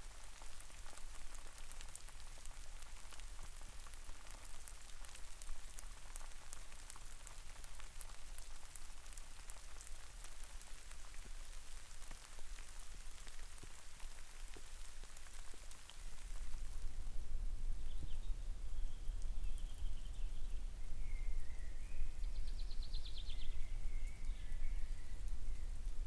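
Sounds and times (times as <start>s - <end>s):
raindrops clicking close by: 0.0s - 26.0s
steady rain: 0.0s - 26.0s.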